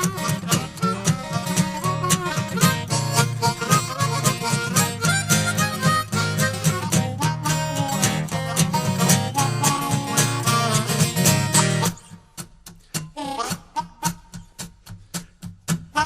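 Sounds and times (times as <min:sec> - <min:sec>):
harmonica playing: 0:00.0 - 0:12.1, 0:13.2 - 0:14.5
acoustic guitar: 0:00.0 - 0:16.0.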